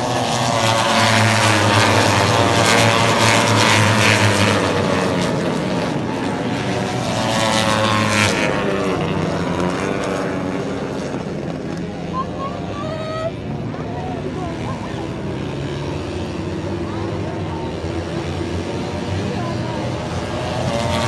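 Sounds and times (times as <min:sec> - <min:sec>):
racing motorcycles passing: 0:00.0 - 0:21.0.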